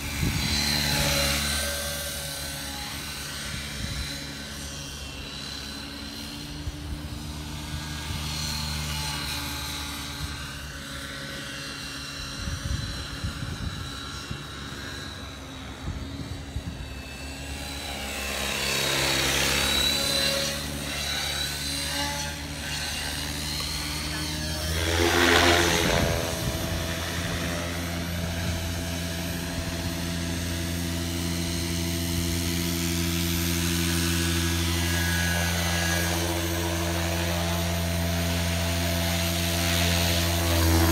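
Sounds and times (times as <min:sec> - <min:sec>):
rc helicopter rotor whir: 0:00.0 - 0:40.9.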